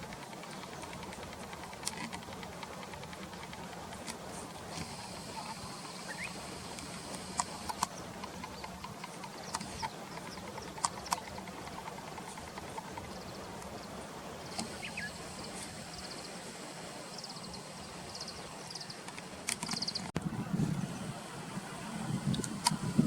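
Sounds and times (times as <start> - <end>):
wild birds calling: 0.0 - 20.2
steady background hiss: 0.0 - 23.0.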